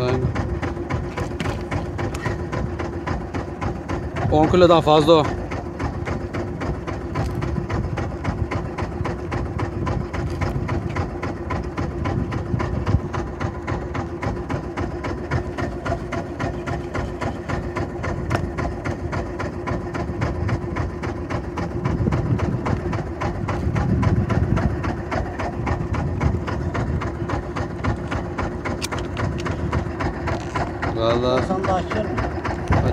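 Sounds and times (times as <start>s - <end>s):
boat engine idling: 0.0s - 32.9s.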